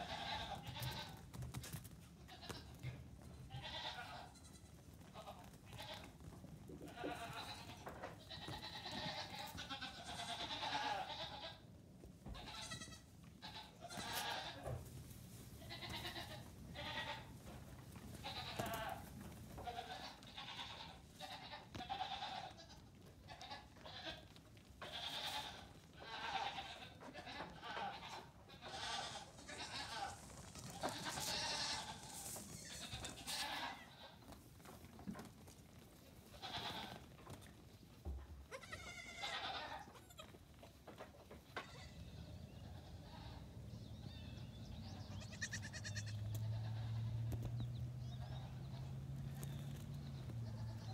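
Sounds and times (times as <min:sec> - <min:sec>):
goat kids bleating: 0:00.0 - 0:01.4, 0:02.2 - 0:14.8, 0:15.6 - 0:34.4, 0:36.2 - 0:37.1, 0:38.4 - 0:40.5, 0:41.4 - 0:50.9.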